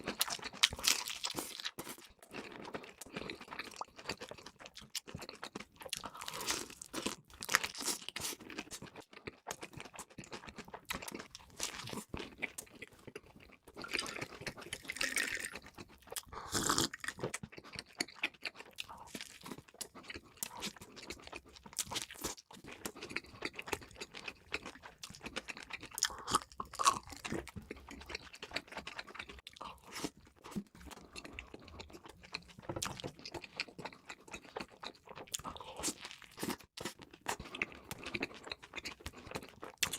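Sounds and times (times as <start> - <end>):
crunching bites of fried food: 0.0 - 39.9.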